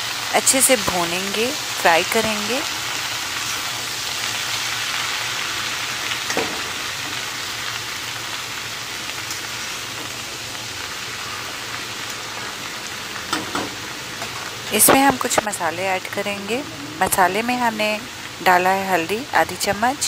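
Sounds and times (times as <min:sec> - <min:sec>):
cabbage sizzling in hot oil: 0:00.0 - 0:20.0.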